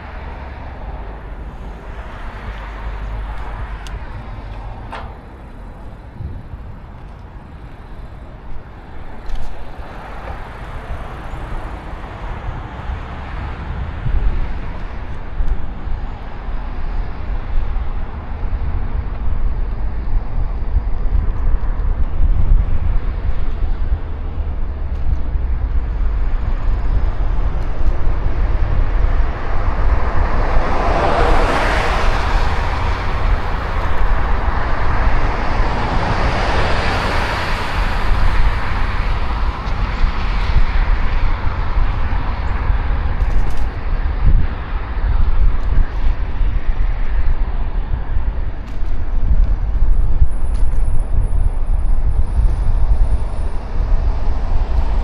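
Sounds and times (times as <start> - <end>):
traffic noise: 0.0 - 55.0
wind and road rumble: 0.0 - 55.0.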